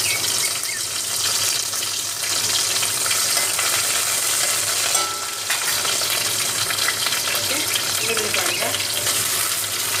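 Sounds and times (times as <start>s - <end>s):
leaves sizzling in hot oil: 0.0s - 10.0s.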